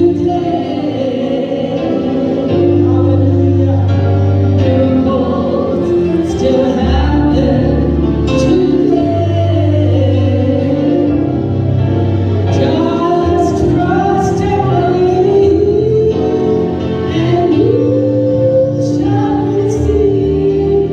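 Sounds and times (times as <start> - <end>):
choir singing gospel: 0.0 - 20.9
steady bass accompaniment: 0.0 - 20.9.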